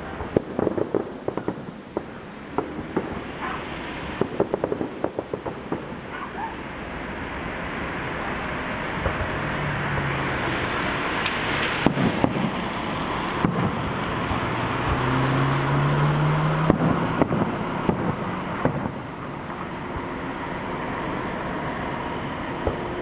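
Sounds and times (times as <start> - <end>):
fireworks popping and crackling: 0.0 - 23.0
rushing noise: 0.0 - 23.0.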